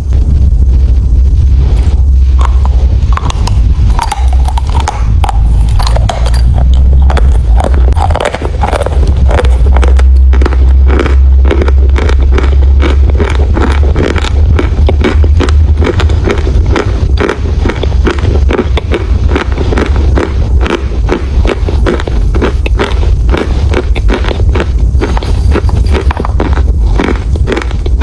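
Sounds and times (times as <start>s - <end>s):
low rumble: 0.0s - 28.0s
chalk crunching while chewed: 1.8s - 28.0s.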